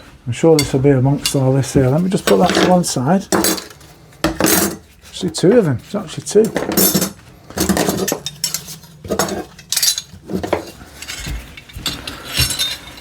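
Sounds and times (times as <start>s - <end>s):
metal hand tools clattering: 0.0s - 5.4s, 6.0s - 13.0s.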